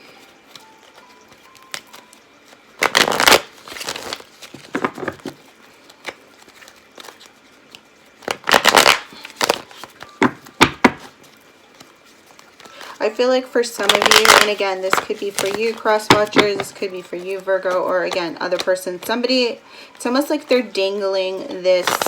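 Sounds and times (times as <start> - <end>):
cards shuffling: 0.0 - 13.1, 13.8 - 20.6, 21.4 - 22.0.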